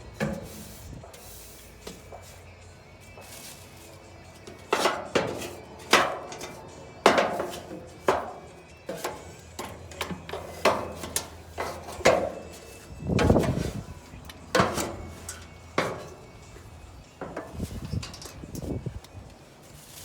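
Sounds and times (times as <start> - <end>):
dryer parts knocking and clunking: 0.0 - 2.4, 3.1 - 19.2.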